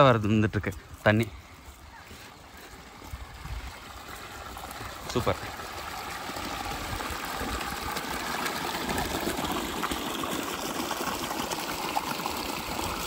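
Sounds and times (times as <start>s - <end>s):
water gushing into a concrete tank: 2.3s - 13.0s.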